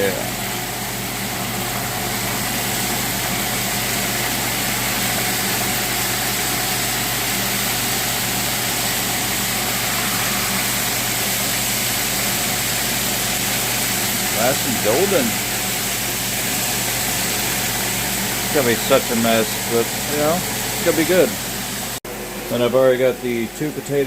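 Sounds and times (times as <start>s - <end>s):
chicken frying in a pan: 0.0s - 24.0s
even hum: 0.0s - 24.0s.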